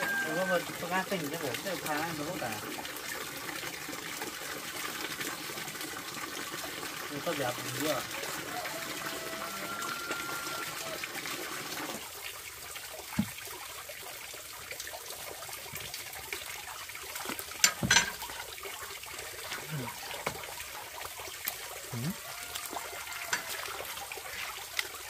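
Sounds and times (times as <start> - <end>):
water running and trickling: 0.0 - 25.0.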